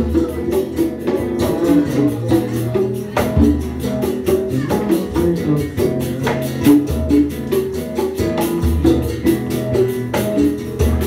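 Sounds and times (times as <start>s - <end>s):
guitars playing chords: 0.0s - 11.0s
hand percussion beat: 0.0s - 11.0s.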